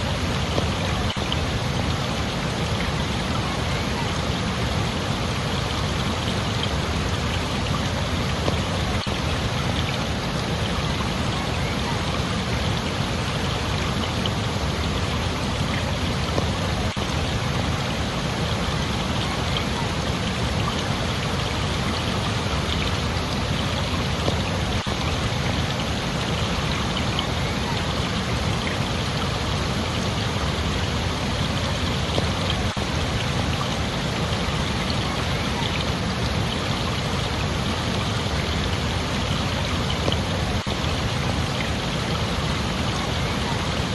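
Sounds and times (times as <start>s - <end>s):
water rushing: 0.0s - 43.9s.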